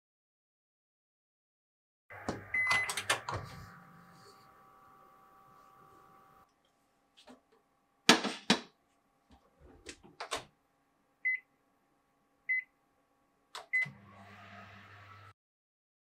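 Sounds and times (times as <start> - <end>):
microwave humming: 2.1 - 15.4.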